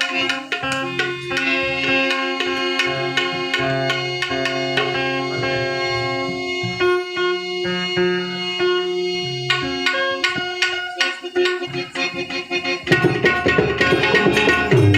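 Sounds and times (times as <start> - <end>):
tabla strokes: 0.0 - 6.9, 9.5 - 14.9
harmonium melody: 0.0 - 14.9.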